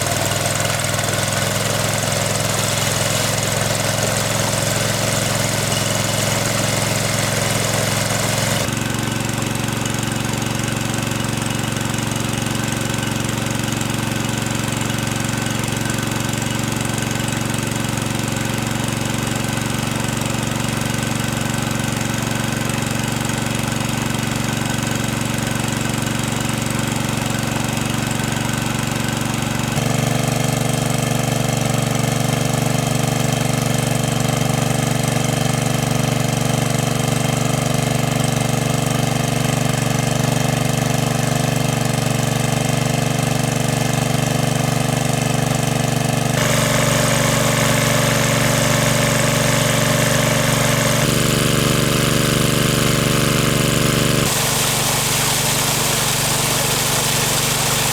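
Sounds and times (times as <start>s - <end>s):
small boat engine running: 0.0s - 57.9s.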